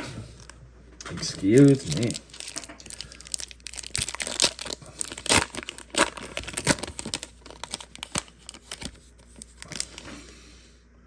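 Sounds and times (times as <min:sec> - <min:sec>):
card pack tearing and crinkling: 0:00.4 - 0:10.1.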